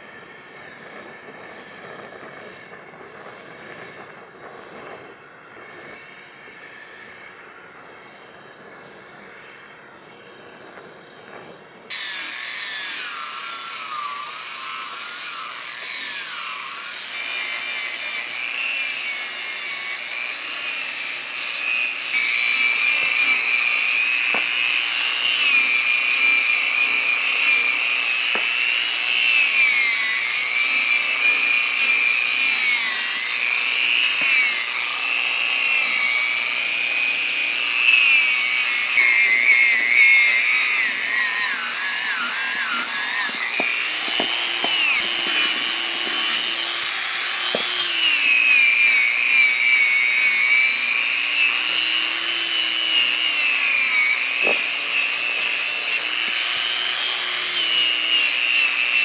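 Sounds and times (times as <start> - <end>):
power tool whining on wood: 0.0 - 59.0.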